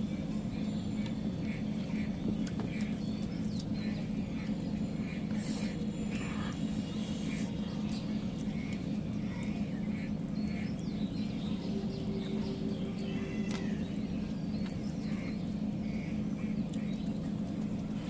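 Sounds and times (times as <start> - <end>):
steady low hum: 0.0 - 18.0
small birds chirping: 0.1 - 18.0.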